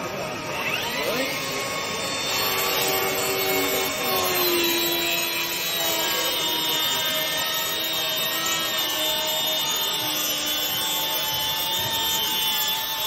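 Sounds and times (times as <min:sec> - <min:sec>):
track saw cutting wood: 0:00.0 - 0:13.0.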